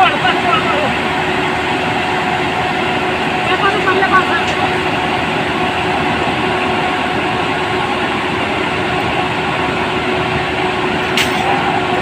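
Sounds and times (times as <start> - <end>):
constant machine hum: 0.0 - 12.0
heavy machinery engine: 0.0 - 12.0.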